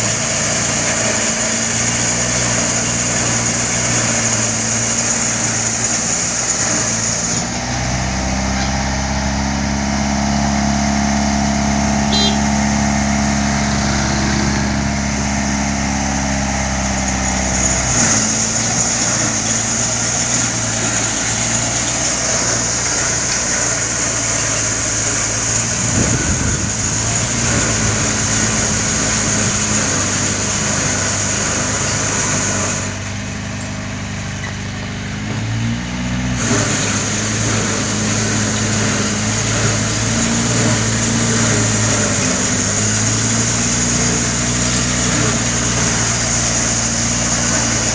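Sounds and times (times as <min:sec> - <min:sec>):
road roller engine running: 0:00.0 - 0:47.9.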